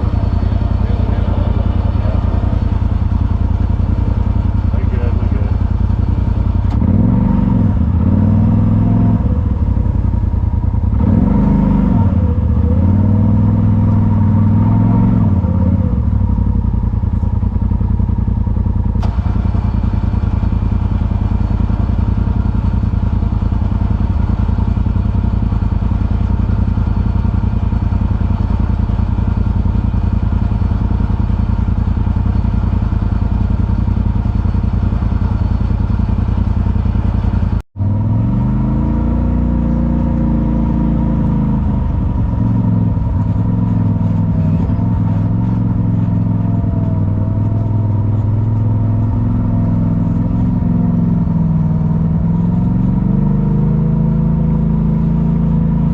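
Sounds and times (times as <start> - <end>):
utility vehicle engine: 0.0 - 55.9.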